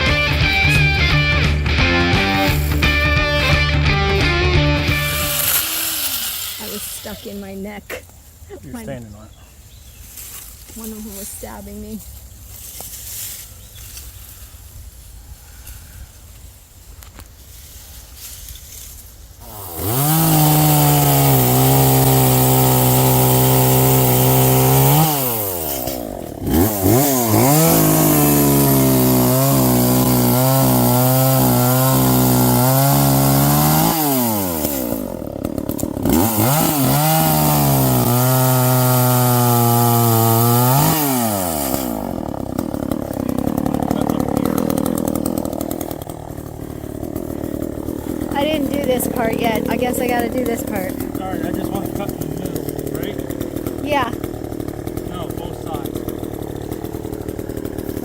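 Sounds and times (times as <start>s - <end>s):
chainsaw revving: 0.0s - 9.3s, 10.1s - 14.1s, 18.2s - 58.0s.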